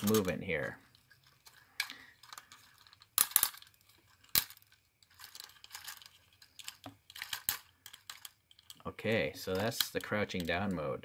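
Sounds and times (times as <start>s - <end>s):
plastic joints clicking: 0.0s - 10.9s
plastic parts knocking: 0.0s - 10.9s.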